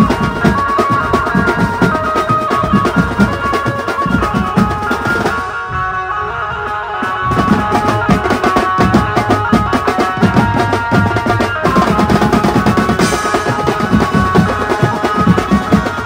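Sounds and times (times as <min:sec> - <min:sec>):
fast snare and tom drumming: 0:00.0 - 0:05.4, 0:07.3 - 0:16.0
amplified melody: 0:00.0 - 0:16.0.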